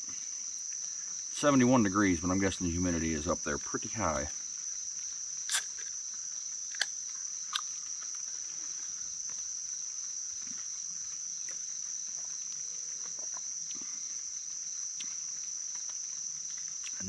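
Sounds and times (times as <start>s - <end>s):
insects chirping chorus: 0.0s - 17.0s.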